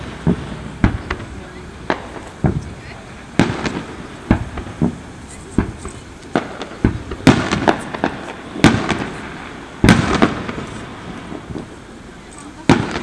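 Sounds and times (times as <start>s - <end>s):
fireworks booming: 0.0s - 13.0s
fireworks crackling: 0.0s - 13.0s.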